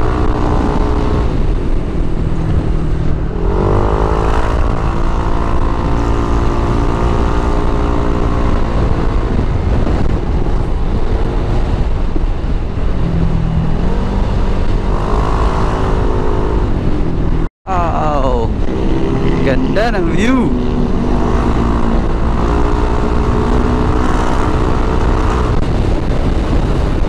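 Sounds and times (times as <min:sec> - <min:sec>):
motorcycle engine accelerating: 0:00.0 - 0:27.0
wind rush on microphone: 0:00.0 - 0:27.0.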